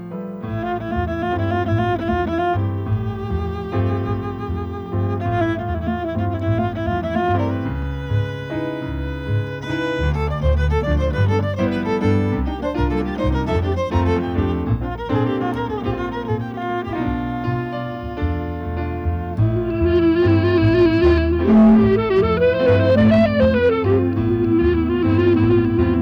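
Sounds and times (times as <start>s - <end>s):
piano: 0.0s - 26.0s
clarinet: 0.4s - 26.0s
double bass line: 0.4s - 26.0s
violin melody: 0.4s - 26.0s.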